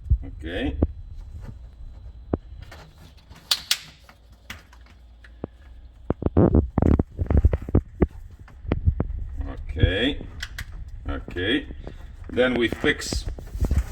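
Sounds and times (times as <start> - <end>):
plastic rubbing hiss: 0.9 - 13.9.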